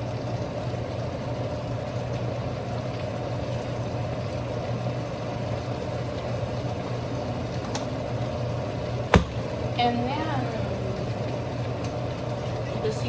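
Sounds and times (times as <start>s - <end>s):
range hood fan humming: 0.0s - 13.0s.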